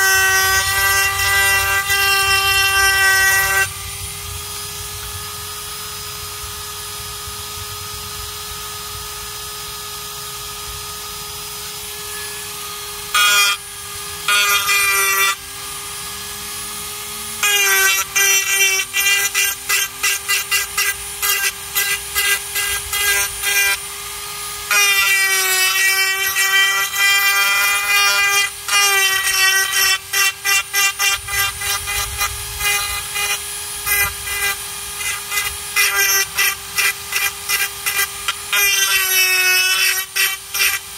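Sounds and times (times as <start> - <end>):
rotary tool whining: 0.0 - 40.9.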